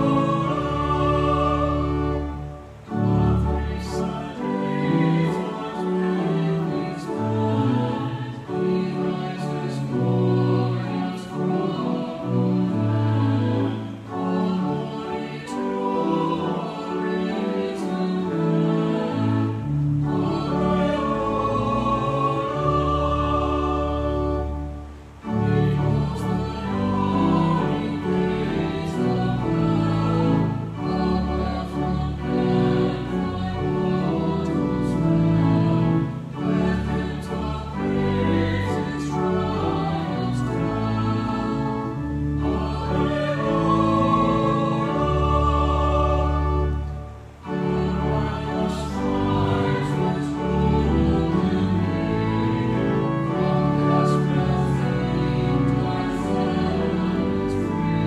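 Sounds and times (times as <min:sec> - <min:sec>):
choir singing: 0:00.0 - 0:58.0
organ playing: 0:00.0 - 0:58.0.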